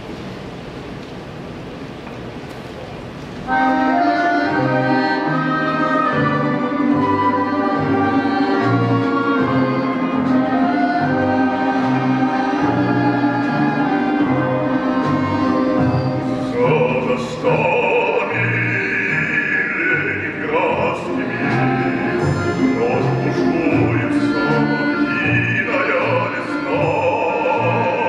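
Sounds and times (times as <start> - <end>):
folk string orchestra: 3.5 - 28.0.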